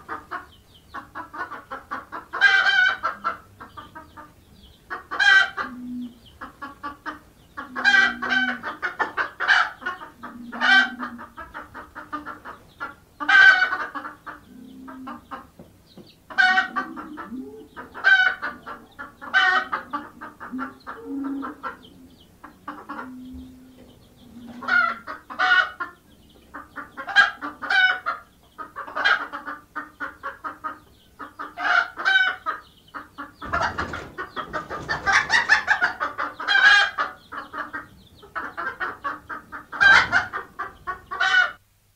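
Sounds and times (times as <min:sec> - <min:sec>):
hens clucking: 0:00.0 - 0:41.6.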